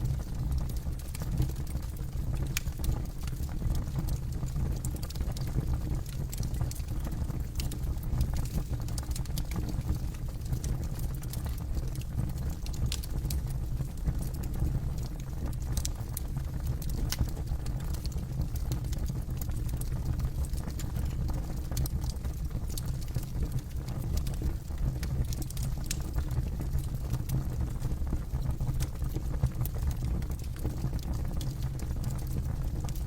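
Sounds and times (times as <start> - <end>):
low rumble of flames: 0.0 - 33.0
wood crackling and popping: 0.0 - 33.0.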